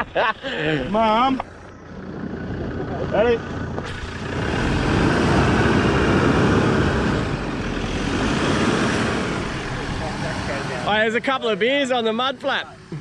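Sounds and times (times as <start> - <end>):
vehicle engine straining under load: 0.0 - 11.6.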